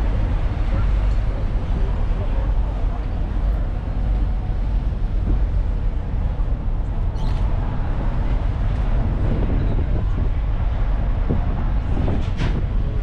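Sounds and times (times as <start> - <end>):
ferry engine rumble: 0.0 - 13.0.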